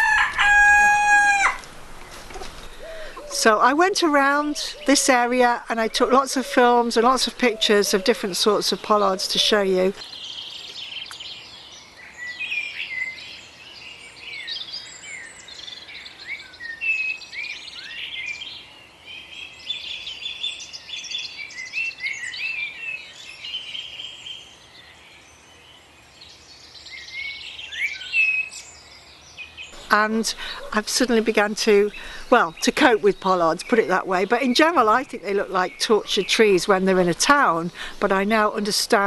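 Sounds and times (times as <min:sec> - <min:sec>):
songbirds singing: 0:00.0 - 0:39.0.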